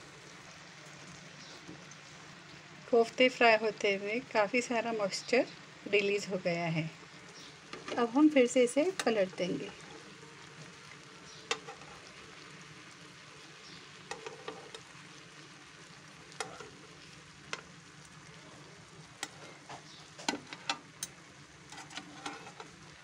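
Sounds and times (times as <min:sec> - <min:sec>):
meat sizzling in oil: 0:00.0 - 0:23.0.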